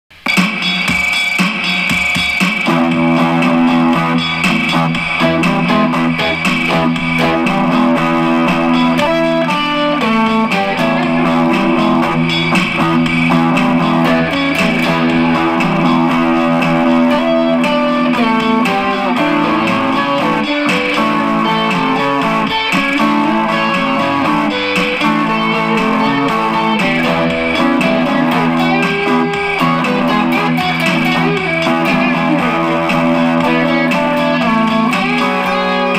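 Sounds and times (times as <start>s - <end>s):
electric guitar music: 0.2s - 35.9s.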